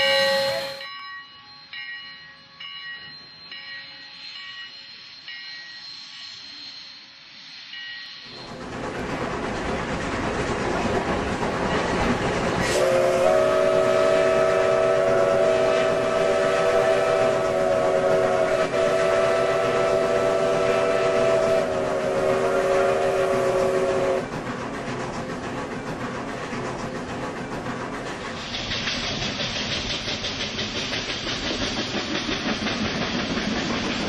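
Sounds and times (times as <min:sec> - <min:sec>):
steam locomotive running: 0:00.0 - 0:34.0.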